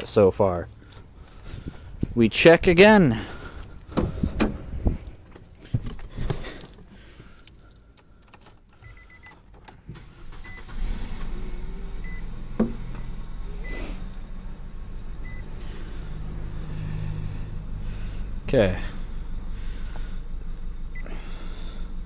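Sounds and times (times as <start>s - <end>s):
car engine starting and idling: 0.0s - 22.0s.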